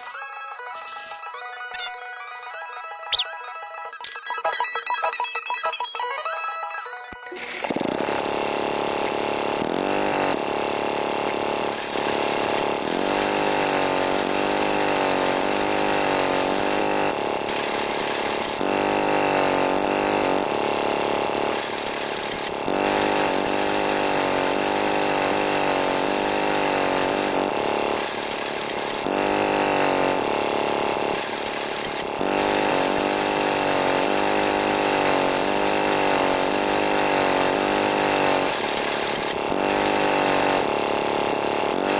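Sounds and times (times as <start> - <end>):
small motors whining: 6.6 - 41.9.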